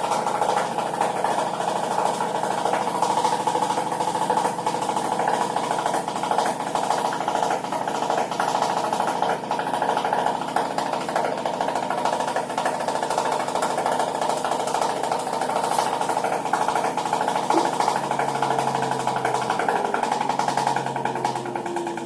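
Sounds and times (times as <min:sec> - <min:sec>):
fast continuous knocking: 0:00.0 - 0:22.0
washing machine spinning: 0:00.0 - 0:22.0.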